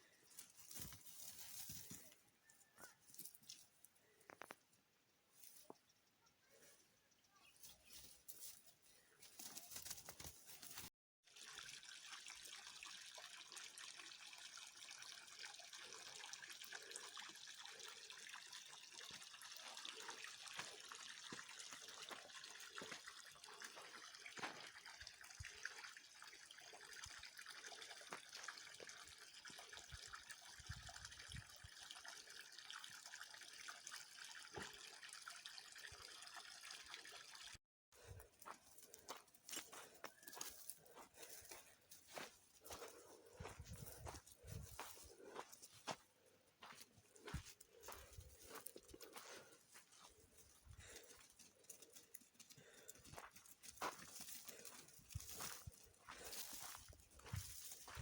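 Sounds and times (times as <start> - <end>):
trickling stream: 0.0 - 58.0.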